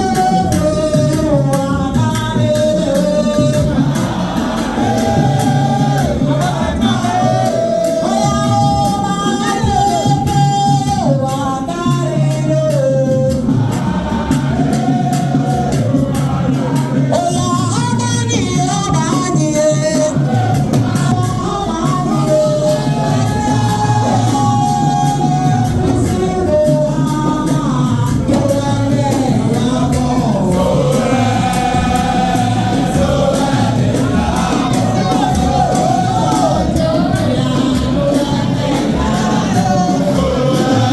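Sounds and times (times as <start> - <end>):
lead voice singing: 0.0 - 40.9
light percussion: 0.0 - 40.9
other voices singing: 0.0 - 40.9.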